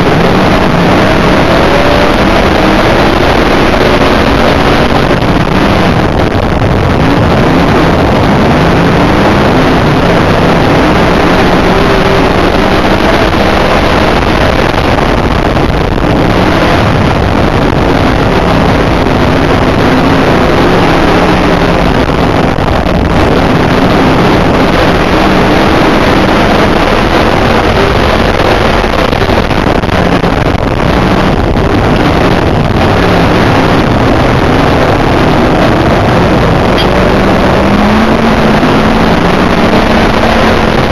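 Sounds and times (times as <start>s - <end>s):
race car engine running hard: 0.0s - 40.9s.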